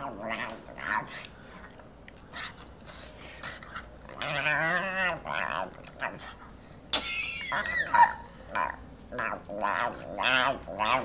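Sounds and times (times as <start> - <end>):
pug grunting and moaning: 0.0 - 6.6, 7.4 - 11.0.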